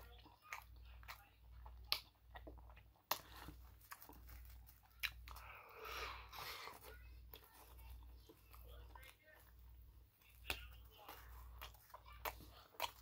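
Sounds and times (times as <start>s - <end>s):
person chewing sandwich: 0.0s - 13.0s.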